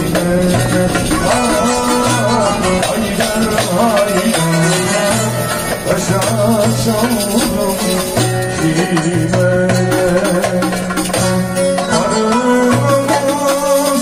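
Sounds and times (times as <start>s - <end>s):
frame drum beat: 0.0s - 14.0s
man singing into a microphone: 0.0s - 14.0s
saz playing: 0.0s - 14.0s.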